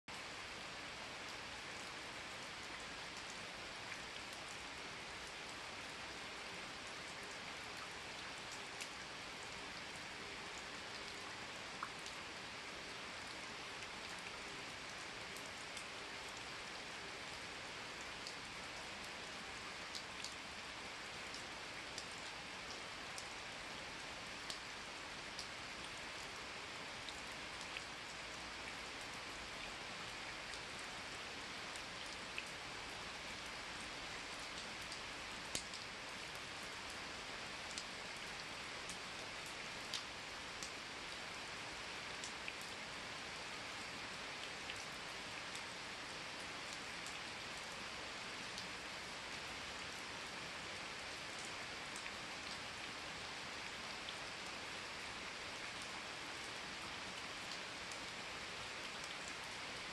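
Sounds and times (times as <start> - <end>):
rain falling on leaves: 0.1 - 59.9.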